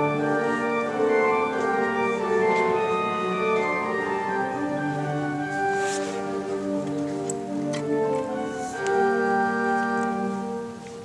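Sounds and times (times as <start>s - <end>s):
pipe organ playing chords: 0.0s - 11.0s.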